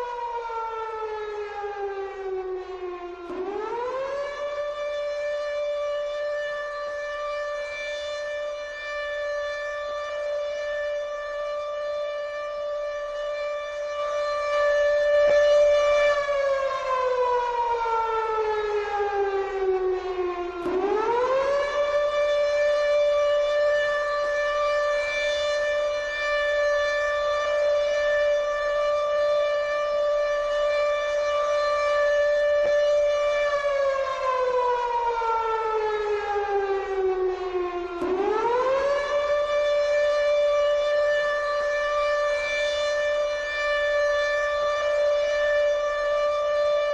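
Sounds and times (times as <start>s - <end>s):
civil defence siren wailing: 0.0s - 46.9s.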